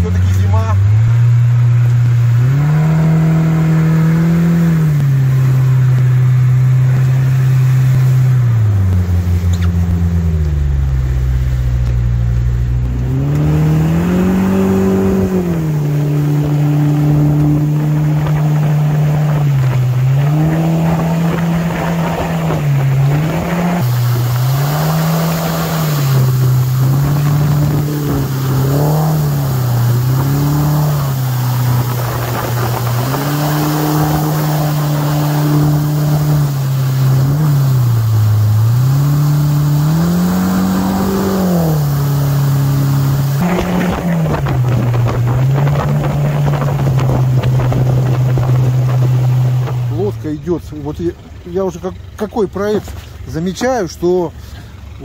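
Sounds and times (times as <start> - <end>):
outboard motor revving: 0.0 - 55.0
rush of spray and wind: 2.2 - 50.2.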